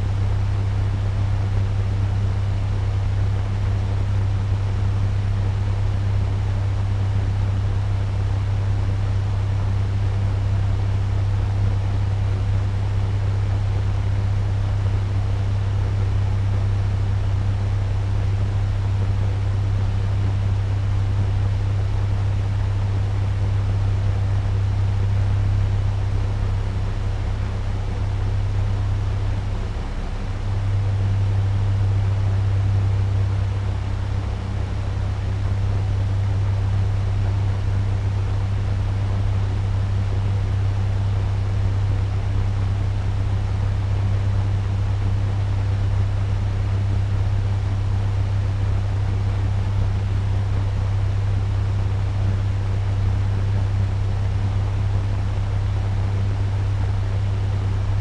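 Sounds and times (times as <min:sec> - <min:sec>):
fan air rushing: 0:00.0 - 0:58.0
low motor hum: 0:00.0 - 0:58.0.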